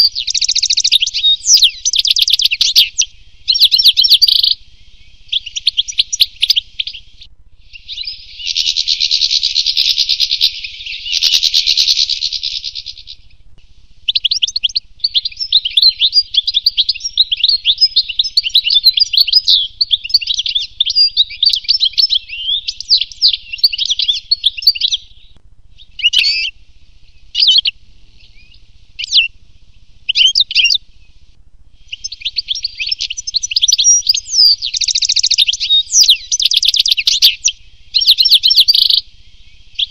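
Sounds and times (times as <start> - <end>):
bird twittering and trilling: 0.0 - 13.4, 14.1 - 29.4, 30.0 - 31.2, 31.8 - 39.9
short bird calls: 0.0 - 29.4, 30.0 - 31.2, 31.8 - 39.9.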